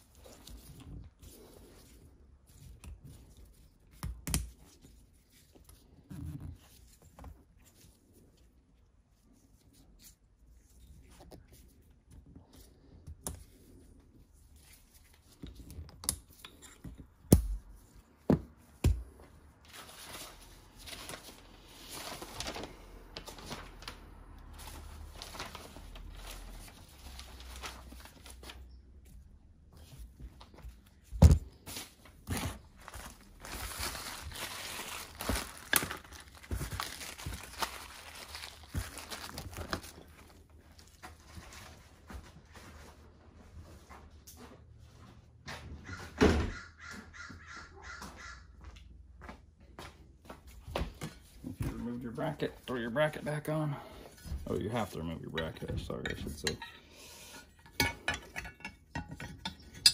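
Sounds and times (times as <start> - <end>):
rustling and crinkling: 0.0 - 48.3.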